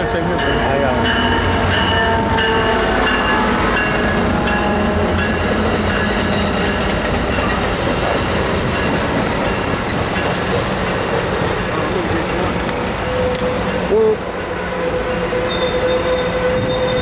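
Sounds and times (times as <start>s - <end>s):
passenger train rumbling past: 0.0s - 17.0s.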